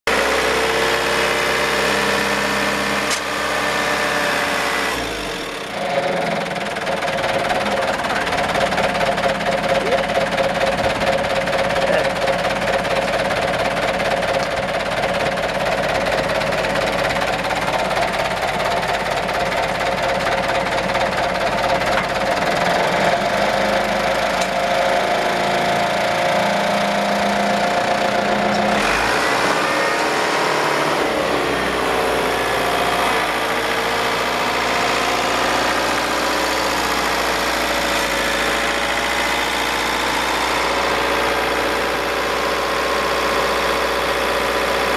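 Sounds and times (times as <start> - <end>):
truck engine idling: 0.1 - 44.9.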